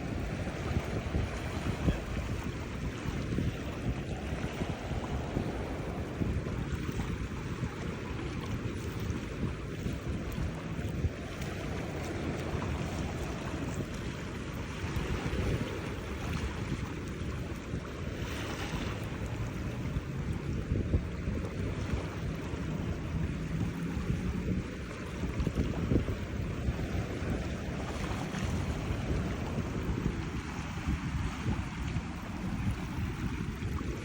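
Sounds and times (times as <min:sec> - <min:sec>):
surf washing onto beach: 0:00.0 - 0:34.0
wind on microphone: 0:00.0 - 0:34.0.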